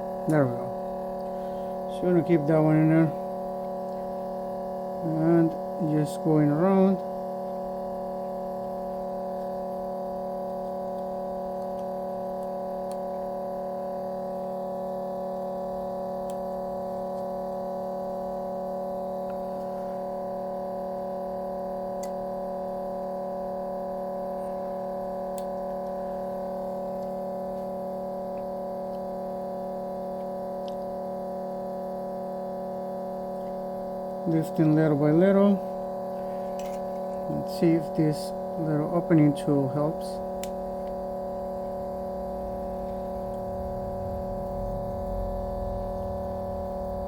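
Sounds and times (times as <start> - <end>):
steady multi-tone hum: 0.0 - 47.0.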